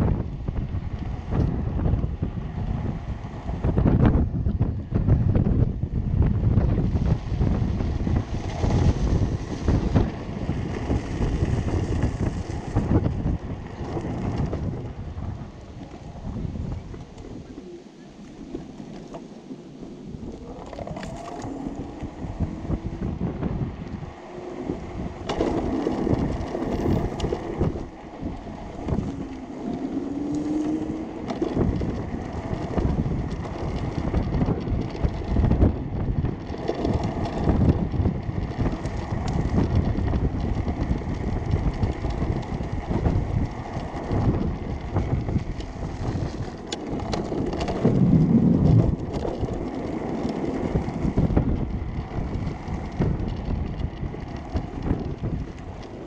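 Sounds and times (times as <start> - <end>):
wind buffeting microphone: 0.0 - 56.0
tyre rumble on asphalt: 0.1 - 17.2, 18.5 - 56.0.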